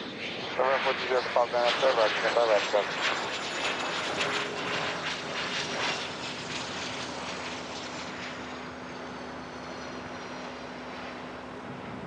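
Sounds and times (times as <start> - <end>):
passing aircraft engine: 0.0 - 12.0.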